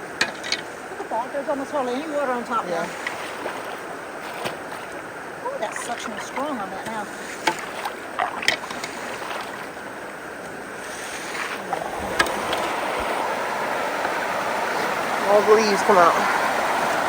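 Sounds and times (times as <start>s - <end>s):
water rushing and gurgling: 0.0s - 17.0s.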